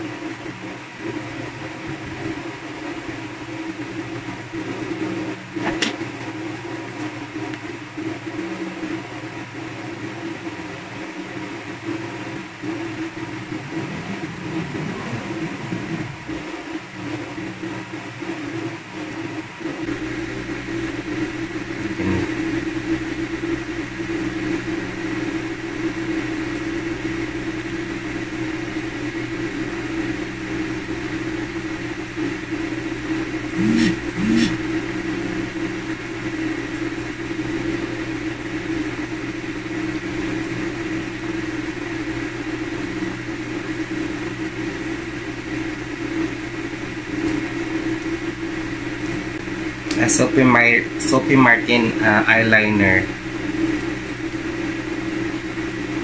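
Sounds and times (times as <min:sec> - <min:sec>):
mechanical whirring hum: 0:00.0 - 0:56.0.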